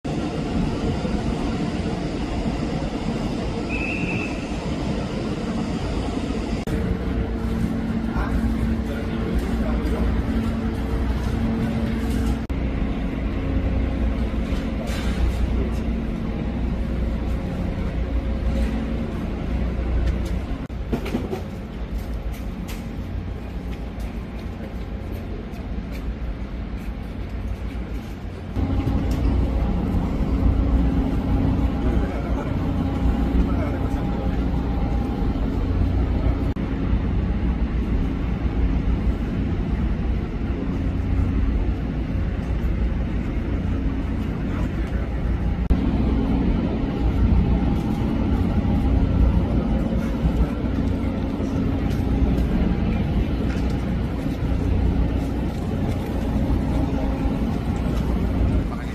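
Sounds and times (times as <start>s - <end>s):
low rumble of machinery: 0.0s - 58.9s.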